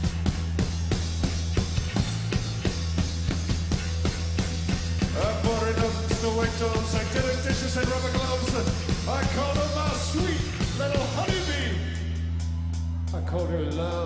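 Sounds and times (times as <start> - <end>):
drum hits: 0.0 - 12.0
distorted rock band playing: 0.0 - 14.0.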